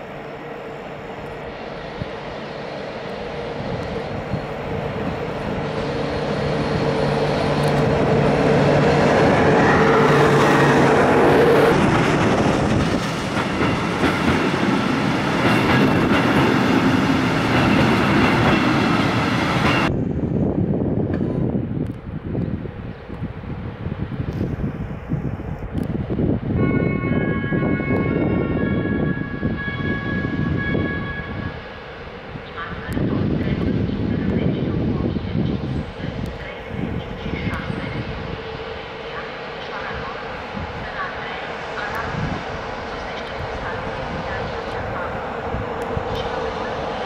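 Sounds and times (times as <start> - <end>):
electric locomotive hum: 0.0 - 47.0.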